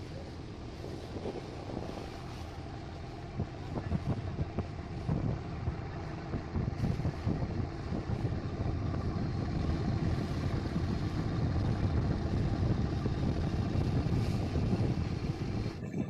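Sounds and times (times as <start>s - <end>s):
boat engine rumbling: 0.0s - 16.0s
sea rushing: 0.0s - 16.0s.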